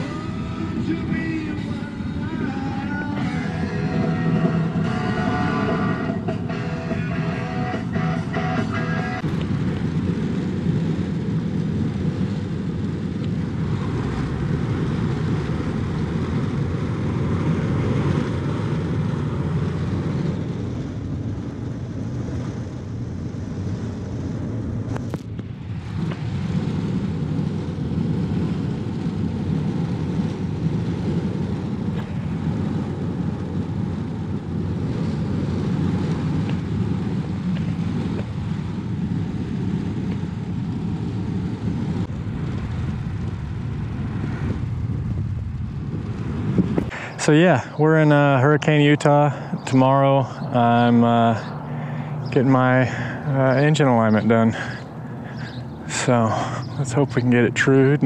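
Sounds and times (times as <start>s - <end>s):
road and engine noise in cab: 0.0s - 58.0s.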